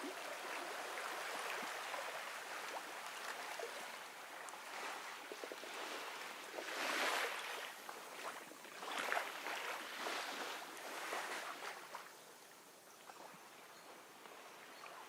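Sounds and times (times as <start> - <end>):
gentle ocean waves: 0.0 - 15.0.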